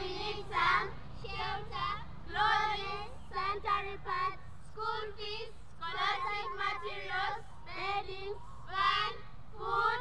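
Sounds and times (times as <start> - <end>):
children singing in unison: 0.0 - 10.0.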